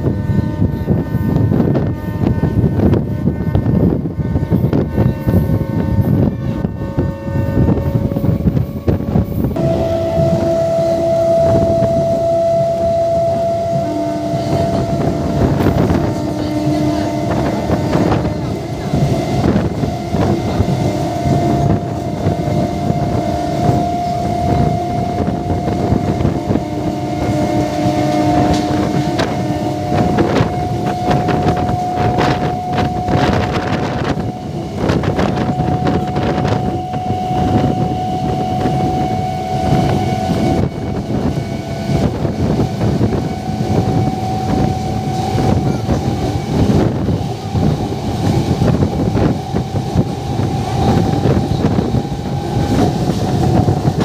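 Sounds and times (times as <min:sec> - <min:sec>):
steady whine: 0:00.0 - 0:54.0
train wheels rumbling on rails: 0:00.0 - 0:54.0
wind on microphone: 0:00.0 - 0:54.0.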